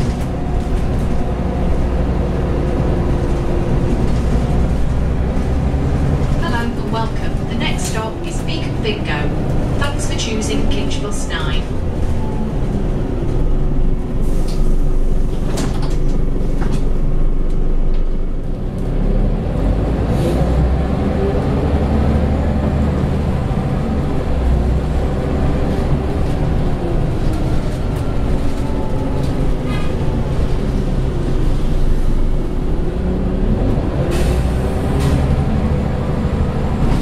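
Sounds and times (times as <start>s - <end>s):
bus diesel engine rumbling: 0.0s - 37.0s.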